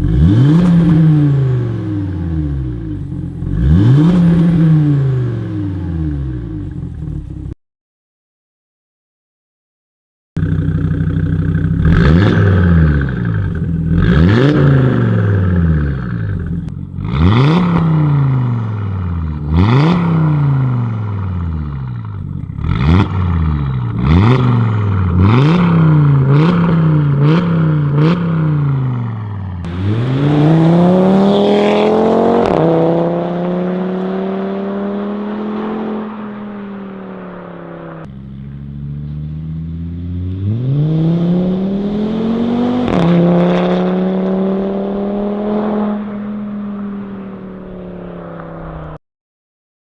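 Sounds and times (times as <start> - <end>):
car engine revving: 0.0 - 7.6, 10.4 - 49.0.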